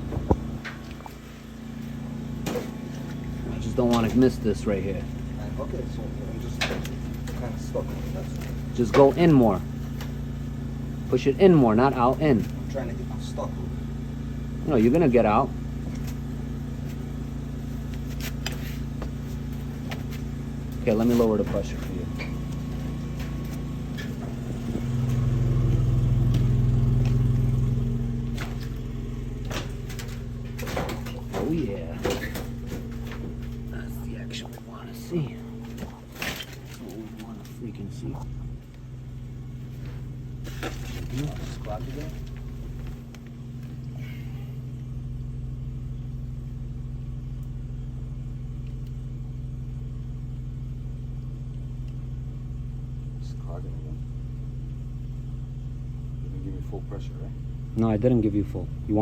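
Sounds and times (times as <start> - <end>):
water jetter engine humming: 0.0 - 59.0.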